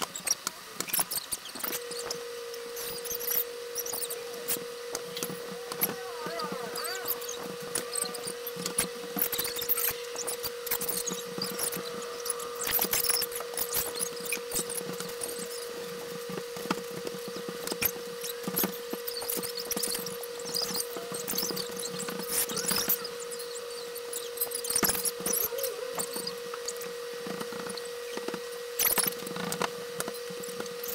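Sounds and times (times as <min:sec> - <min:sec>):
steady low hum: 0:01.5 - 0:30.6.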